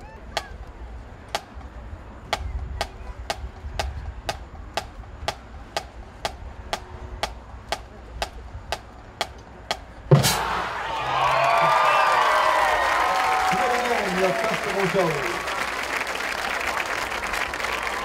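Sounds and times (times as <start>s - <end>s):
low crowd rumble: 0.0s - 18.0s.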